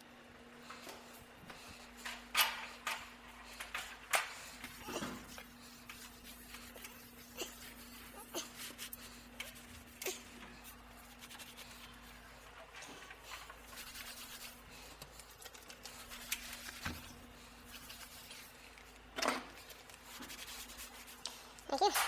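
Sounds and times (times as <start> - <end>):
rubbing and scraping of handling: 0.7 - 22.0.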